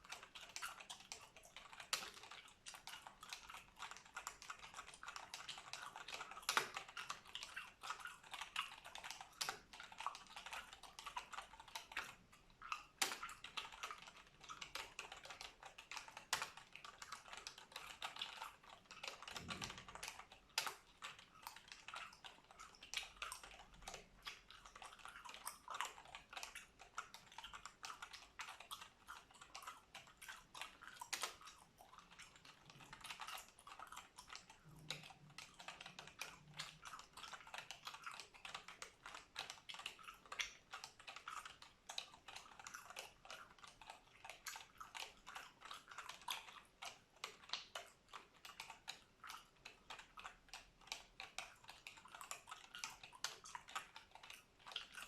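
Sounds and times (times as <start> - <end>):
gum chewing: 0.0 - 55.0.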